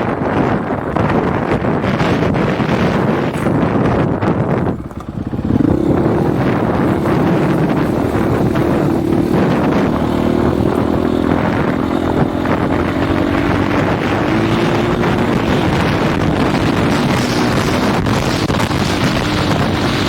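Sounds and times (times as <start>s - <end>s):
dirt bike engine running: 0.0s - 20.0s
wind buffeting microphone: 0.0s - 20.0s.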